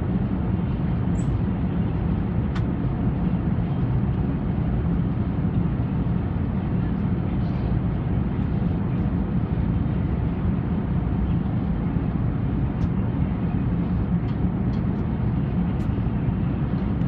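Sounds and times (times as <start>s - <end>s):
vehicle rumble from inside: 0.0s - 17.0s.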